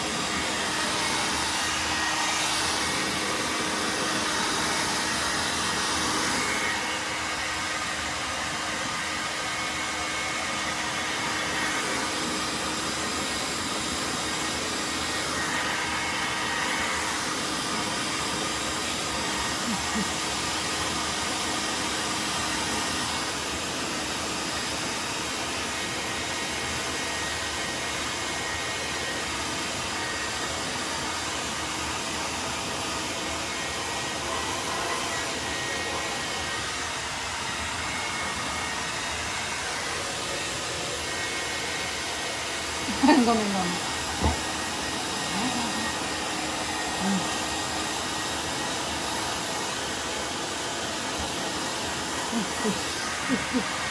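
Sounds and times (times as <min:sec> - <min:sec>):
hair dryer blowing: 0:00.0 - 0:53.9.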